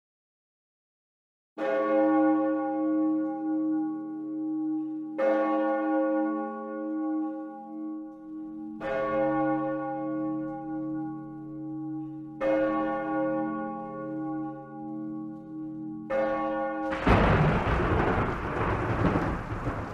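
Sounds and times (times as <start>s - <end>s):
church bell tolling: 1.6s - 19.9s.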